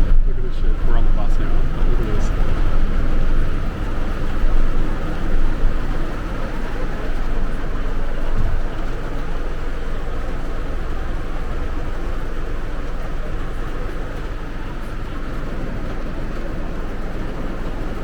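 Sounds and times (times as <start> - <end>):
bus engine rumble: 0.0 - 18.0
road noise: 0.0 - 18.0.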